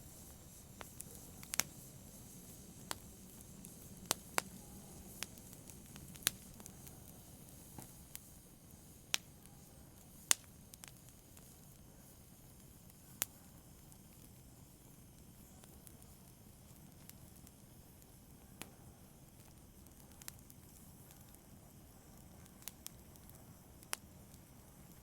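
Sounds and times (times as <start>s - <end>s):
fire crackling and popping: 0.0s - 25.0s
soft low hiss: 0.0s - 25.0s.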